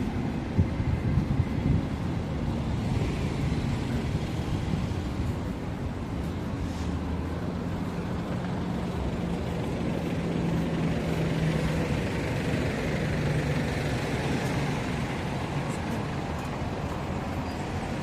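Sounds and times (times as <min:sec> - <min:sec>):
street traffic noise: 0:00.0 - 0:18.0
vehicle engine droning: 0:00.0 - 0:18.0.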